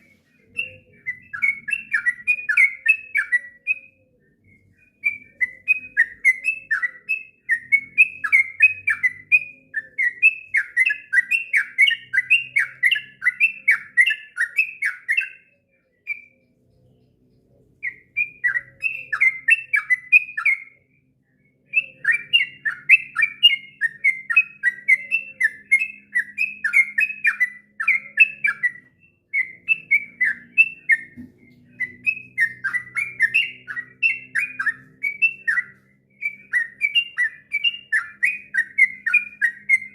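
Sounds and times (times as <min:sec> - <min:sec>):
bulbul singing fast chirps: 0:00.0 - 0:39.9.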